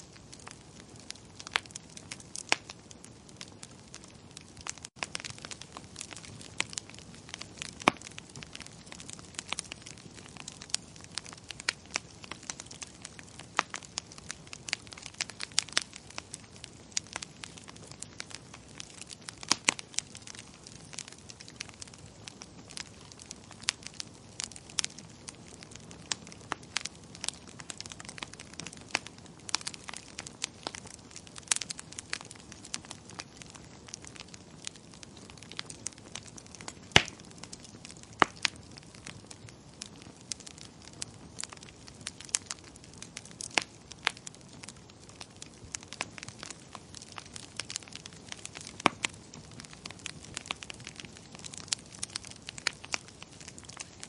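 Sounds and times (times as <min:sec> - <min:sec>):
soft steady hiss: 0:00.0 - 0:54.0
wood fire crackling: 0:00.0 - 0:54.0.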